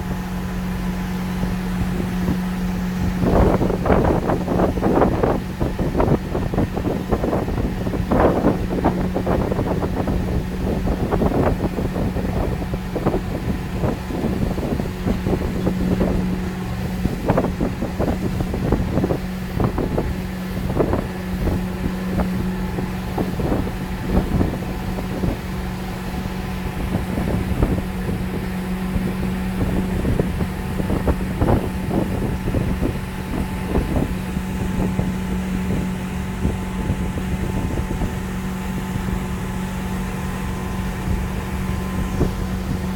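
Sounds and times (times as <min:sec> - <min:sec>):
motorboat engine droning: 0:00.0 - 0:42.9
wind buffeting microphone: 0:00.0 - 0:42.9.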